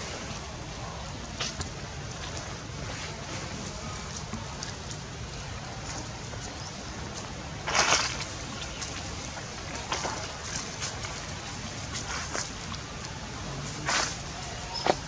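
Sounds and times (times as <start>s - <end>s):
rustling crackles: 1.2s - 15.0s.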